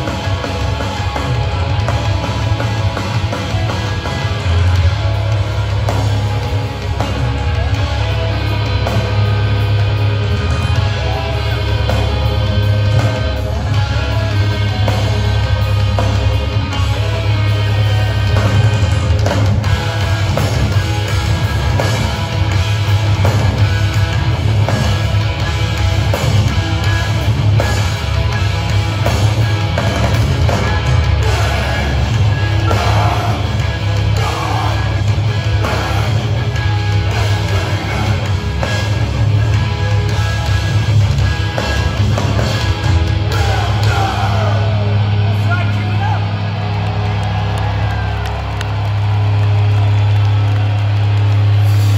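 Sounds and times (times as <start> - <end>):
bass guitar: 0.0 - 51.9
distorted electric guitars: 0.0 - 51.9
drums: 0.0 - 51.9
live metal band playing: 0.0 - 51.9.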